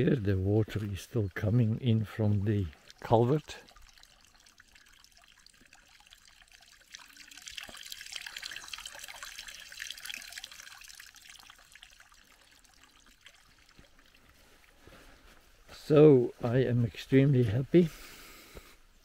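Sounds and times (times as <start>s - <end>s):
water trickling into pond: 0.0s - 16.2s.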